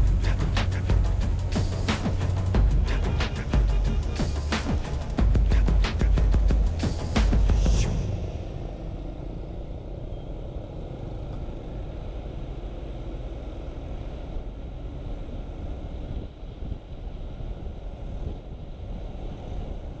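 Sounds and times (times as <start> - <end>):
motorcycle engine rumble: 0.0 - 20.0
road noise: 0.0 - 20.0.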